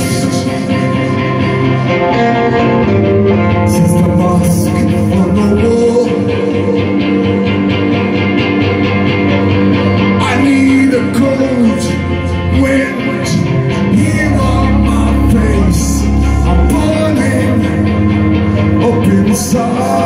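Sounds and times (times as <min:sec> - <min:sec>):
man singing: 0:00.0 - 0:02.6, 0:03.5 - 0:08.1, 0:10.2 - 0:20.0
heavy low bass note: 0:00.0 - 0:19.6
rock band playing: 0:00.0 - 0:20.0.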